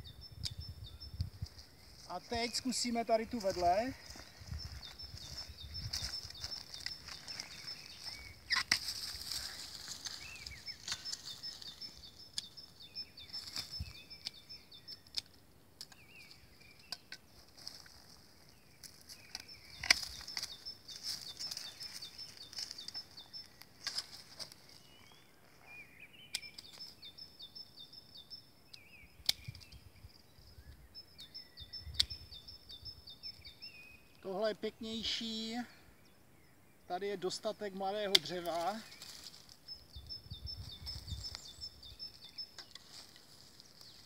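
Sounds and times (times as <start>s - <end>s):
birds singing: 0.0s - 44.0s.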